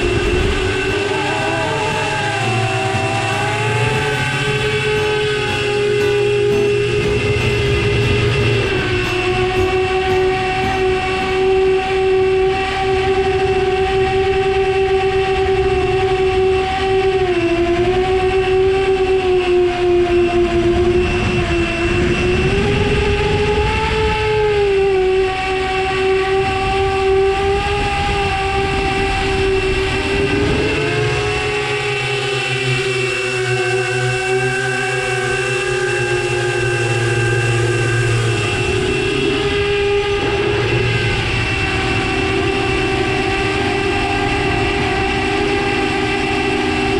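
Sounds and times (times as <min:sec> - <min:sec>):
quadcopter motors whining: 0:00.0 - 0:46.9.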